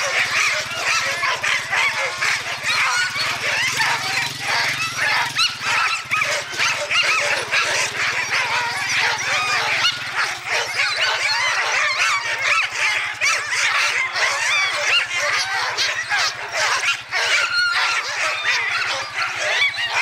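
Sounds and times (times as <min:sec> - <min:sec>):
sled dogs barking and yelping: 0:00.0 - 0:20.0.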